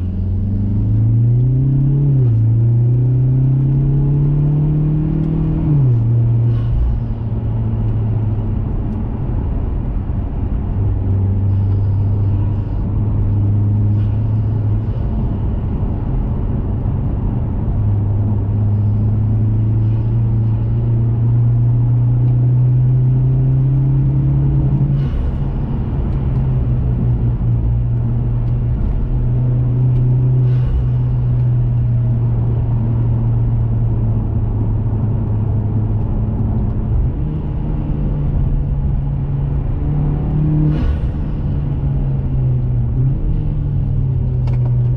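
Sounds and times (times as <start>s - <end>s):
car engine cruising: 0.0s - 44.9s.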